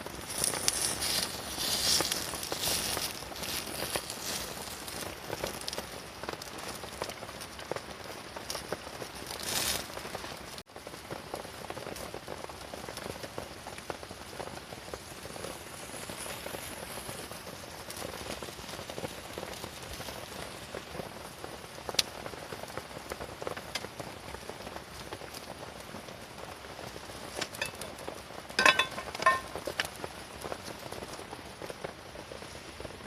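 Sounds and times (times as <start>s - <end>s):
rain pattering on tent: 0.0s - 33.0s.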